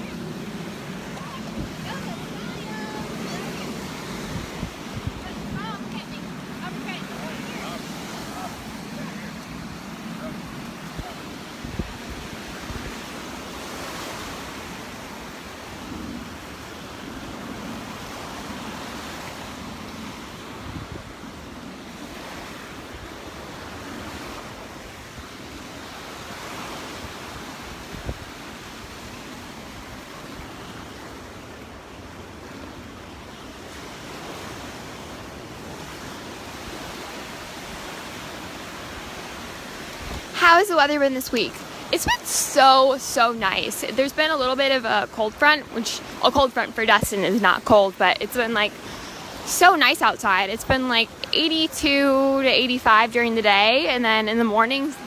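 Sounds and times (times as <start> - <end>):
wind buffeting microphone: 0.0 - 30.9, 35.0 - 55.0
surf washing ashore: 0.0 - 55.0.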